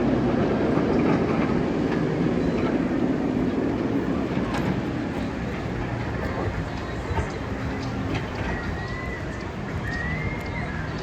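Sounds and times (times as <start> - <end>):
vehicle rumbling along track: 0.0 - 11.0.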